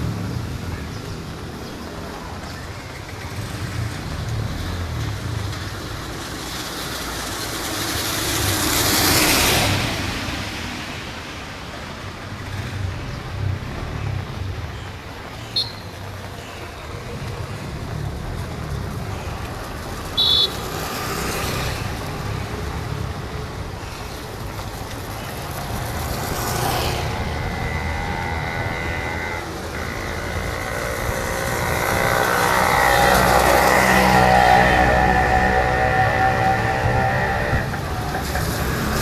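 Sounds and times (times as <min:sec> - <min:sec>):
vehicles passing with rumble: 0:00.0 - 0:39.0.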